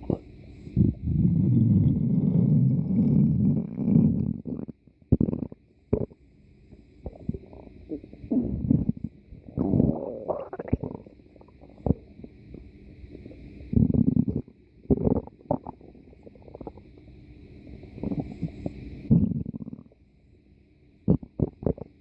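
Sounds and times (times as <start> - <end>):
stomach growling: 0.0 - 6.2, 7.0 - 17.2, 17.8 - 20.0, 21.1 - 22.0.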